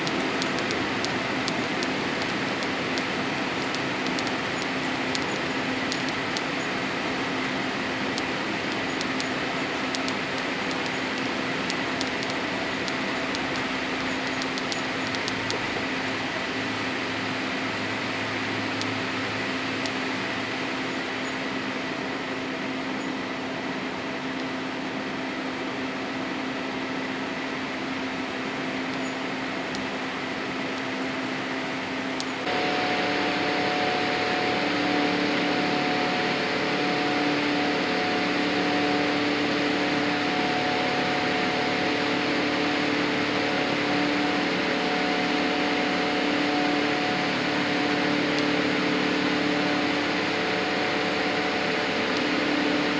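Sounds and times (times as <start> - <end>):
airplane cabin engine rush: 0.0 - 52.9
faint humming tones: 0.0 - 52.9.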